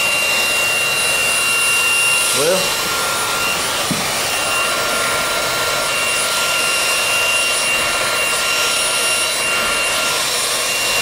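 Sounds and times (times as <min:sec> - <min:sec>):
handheld vacuum cleaner running: 0:00.0 - 0:11.0.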